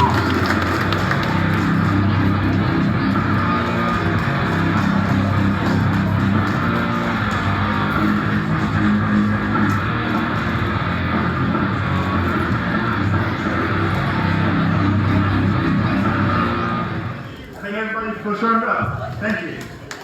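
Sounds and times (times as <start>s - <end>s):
loud rock music with electric guitar: 0.0s - 17.2s.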